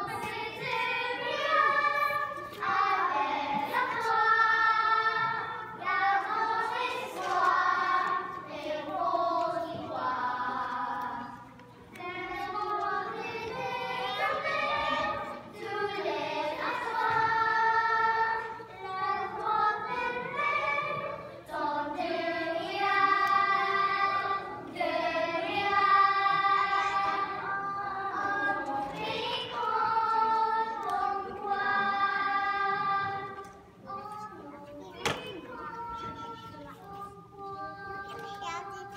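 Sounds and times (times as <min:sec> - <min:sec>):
children singing: 0:00.0 - 0:38.9.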